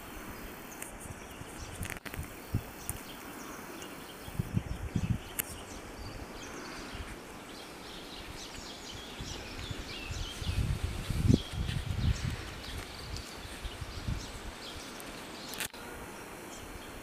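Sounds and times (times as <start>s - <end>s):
outdoor hiss: 0.0s - 17.0s
small birds chirping: 0.0s - 17.0s.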